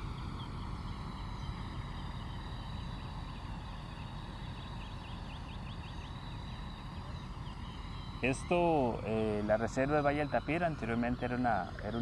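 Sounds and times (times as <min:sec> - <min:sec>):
low steady rumble: 0:00.0 - 0:12.0
steady high buzz: 0:00.0 - 0:12.0.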